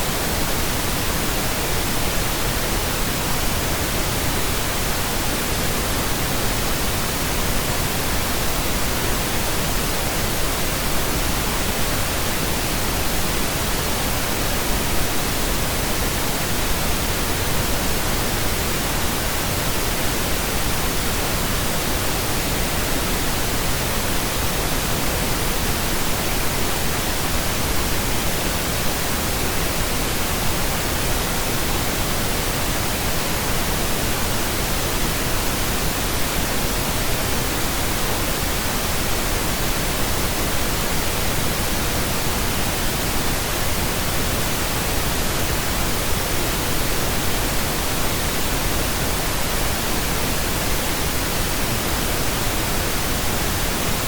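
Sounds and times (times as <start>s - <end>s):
pink noise hiss: 0.0s - 54.0s.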